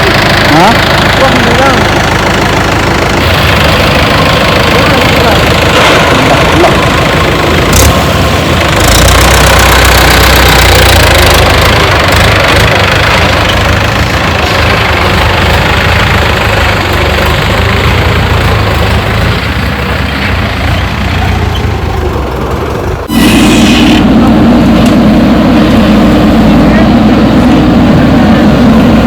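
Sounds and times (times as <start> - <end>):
heavy diesel engine clattering: 0.0 - 29.0.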